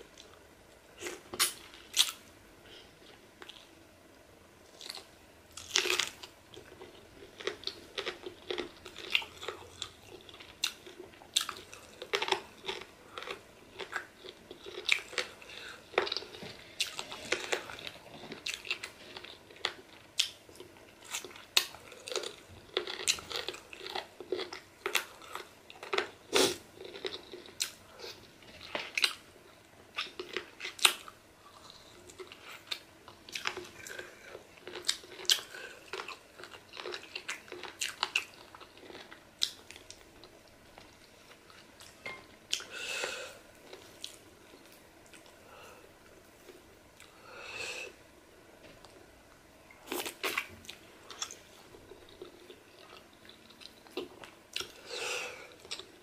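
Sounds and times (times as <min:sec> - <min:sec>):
person chewing: 0:01.0 - 0:02.2, 0:04.7 - 0:29.2, 0:29.9 - 0:48.0, 0:49.8 - 0:56.0.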